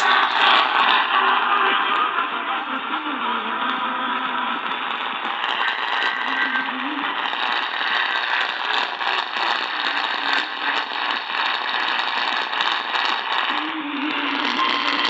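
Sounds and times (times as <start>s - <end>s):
radio static hiss and crackles: 0.0s - 15.0s.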